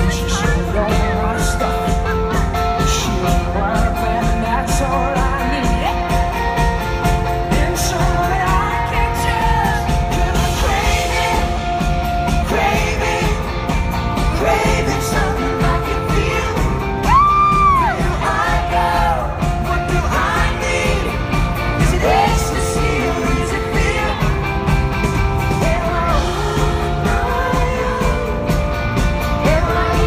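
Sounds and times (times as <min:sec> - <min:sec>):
live pop-rock band: 0:00.0 - 0:30.0
man singing: 0:00.0 - 0:30.0.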